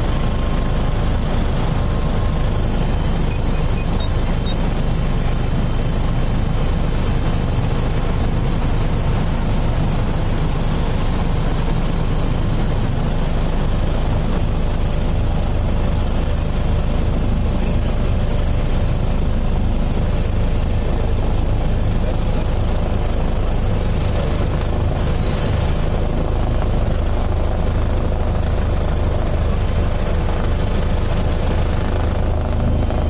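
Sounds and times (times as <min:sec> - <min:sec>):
aircraft engine noise: 0:00.0 - 0:33.0.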